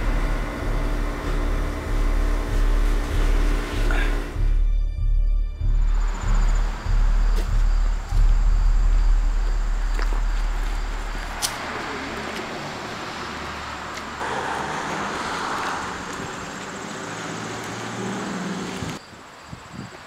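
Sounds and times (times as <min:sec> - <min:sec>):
road traffic passing: 0:00.0 - 0:04.5, 0:05.6 - 0:19.4.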